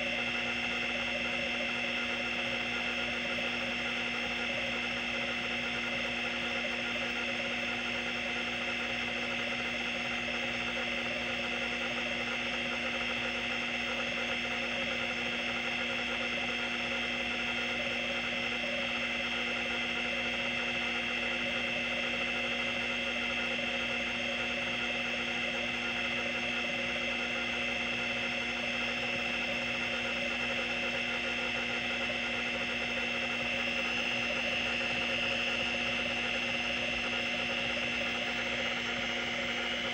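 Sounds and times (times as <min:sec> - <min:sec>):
hard drive heads seeking buzz: 0:00.0 - 0:39.9
hard drive platter whine: 0:00.0 - 0:39.9.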